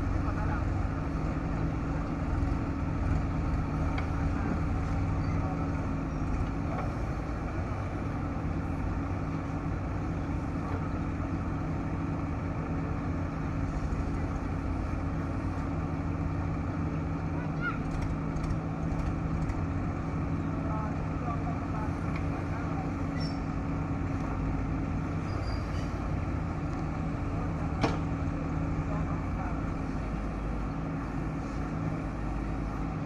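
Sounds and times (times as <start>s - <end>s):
diesel engine running steadily: 0.0s - 33.0s.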